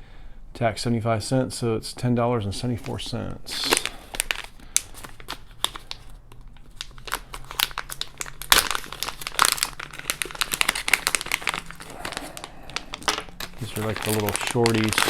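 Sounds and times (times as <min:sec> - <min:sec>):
packaging crinkling: 0:02.7 - 0:15.0.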